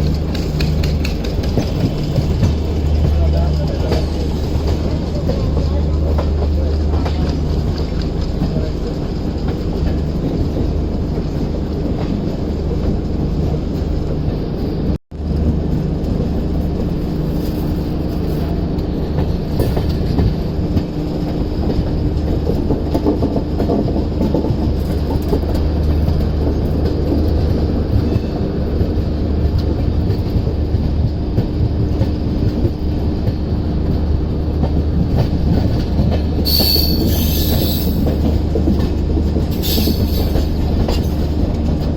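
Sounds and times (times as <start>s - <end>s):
clickety-clack of rail joints: 0.0s - 41.9s
train wheels rumbling on rails: 0.0s - 41.9s.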